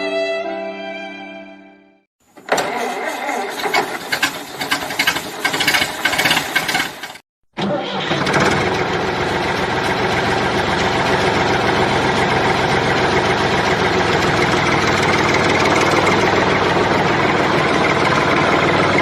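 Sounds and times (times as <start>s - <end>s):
engine starting and idling: 2.3s - 19.0s.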